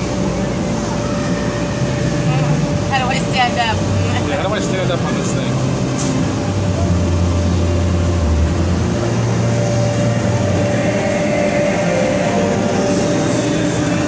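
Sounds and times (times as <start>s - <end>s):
electric air blowers droning: 0.0s - 14.0s
low hum: 0.0s - 14.0s.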